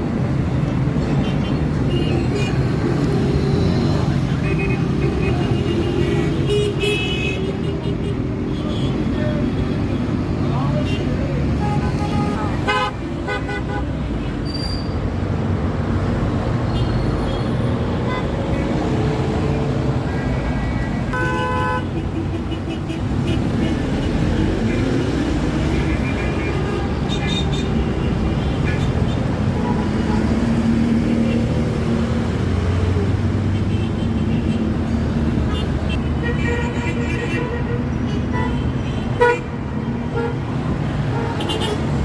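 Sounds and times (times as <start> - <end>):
passing motor traffic rumble: 0.0 - 6.6, 7.4 - 42.0.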